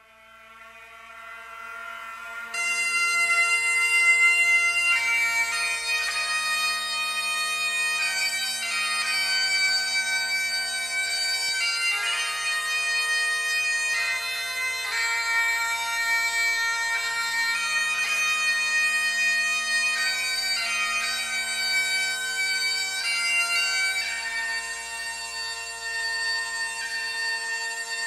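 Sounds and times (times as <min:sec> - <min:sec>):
bagpipe music: 0:00.0 - 0:28.0.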